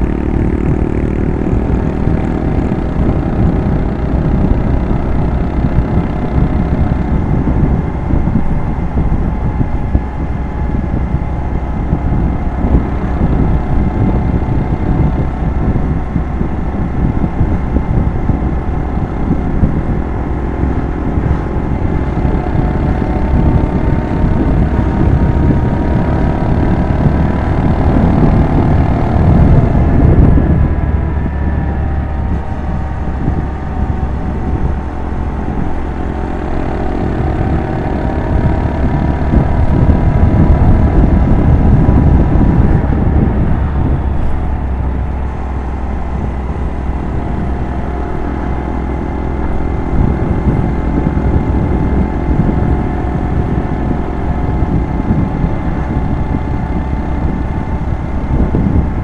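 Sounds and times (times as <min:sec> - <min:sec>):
motorcycle engine running: 0:00.0 - 0:59.0
wind rumbling on microphone: 0:00.0 - 0:59.0.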